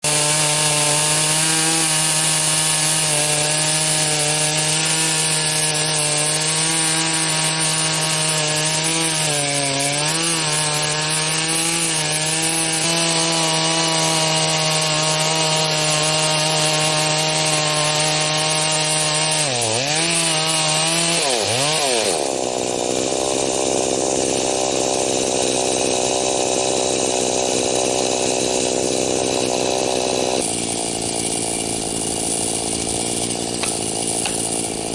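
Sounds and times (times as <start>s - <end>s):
chainsaw cutting at high throttle: 0.0s - 34.9s.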